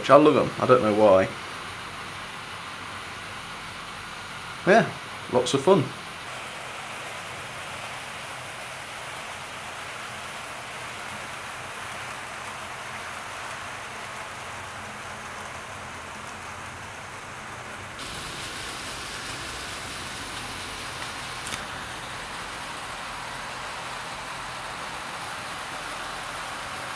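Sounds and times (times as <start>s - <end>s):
model trains running on track: 0.0s - 26.9s.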